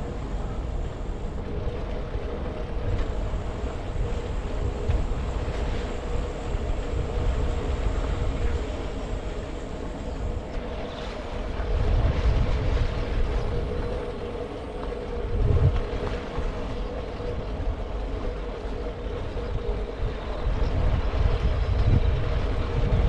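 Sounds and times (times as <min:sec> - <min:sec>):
steady hum: 0:00.0 - 0:23.0
wind rumble on microphone: 0:00.0 - 0:23.0.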